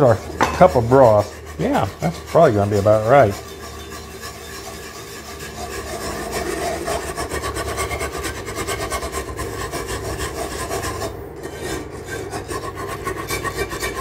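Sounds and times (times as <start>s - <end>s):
wire whisk scraping a skillet: 0.0s - 14.0s.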